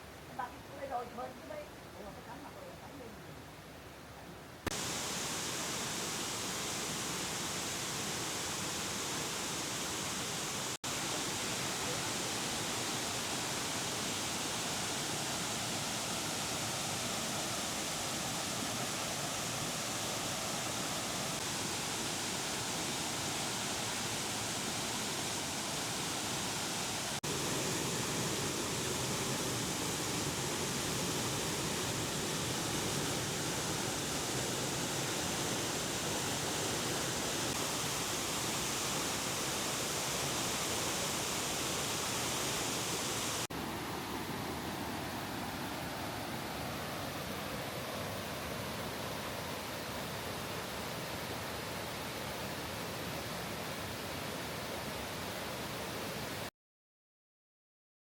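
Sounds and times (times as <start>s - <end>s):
rushing water: 4.6s - 56.5s.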